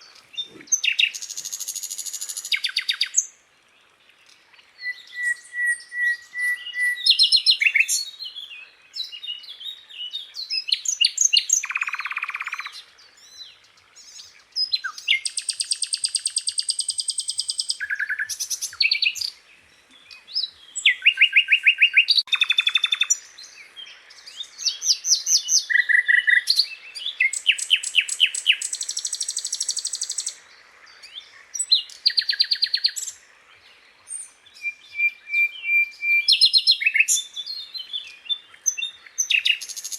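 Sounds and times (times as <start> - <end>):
flycatcher singing chirps and trills: 0.0 - 3.4, 4.2 - 19.4, 20.0 - 30.4, 34.1 - 39.9.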